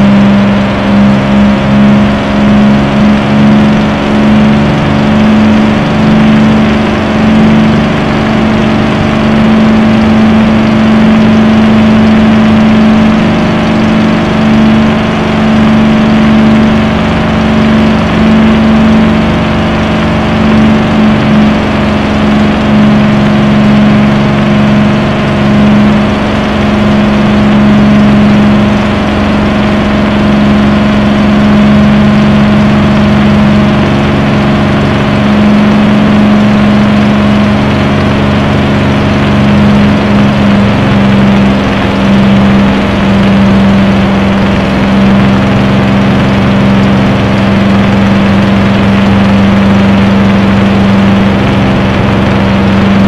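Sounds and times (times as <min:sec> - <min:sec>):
piston aircraft engine drone: 0:00.0 - 0:53.0.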